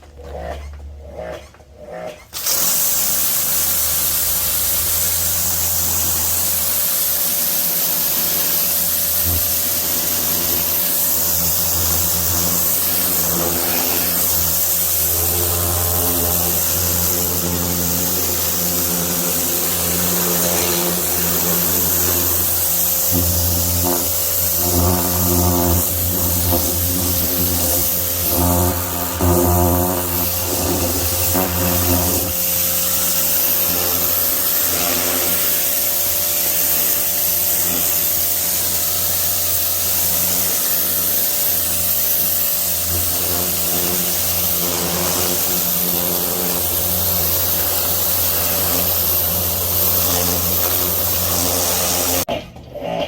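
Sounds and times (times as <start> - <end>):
pressure washer motor hum: 2.3 - 52.3
water jet spraying hiss: 2.4 - 52.3.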